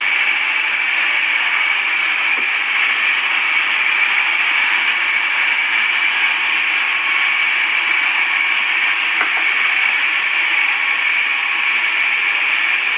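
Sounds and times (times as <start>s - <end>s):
sawmill saw whining: 0.0s - 12.9s.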